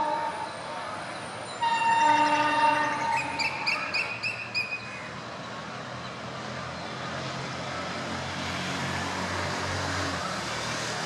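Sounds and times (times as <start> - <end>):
low locomotive engine drone: 0.0 - 11.0.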